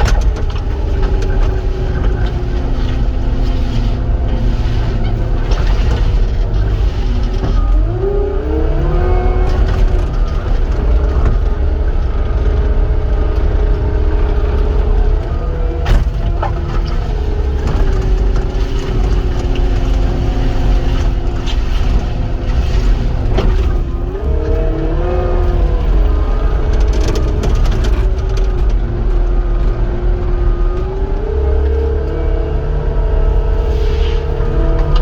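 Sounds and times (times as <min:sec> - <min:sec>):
skid steer diesel drone and whine: 0:00.0 - 0:35.0.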